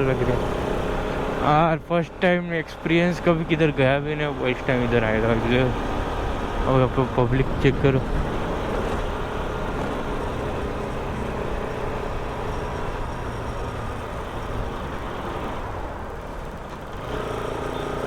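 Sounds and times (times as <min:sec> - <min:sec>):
motorcycle engine: 0:00.0 - 0:18.0
steady engine hum: 0:00.0 - 0:18.0.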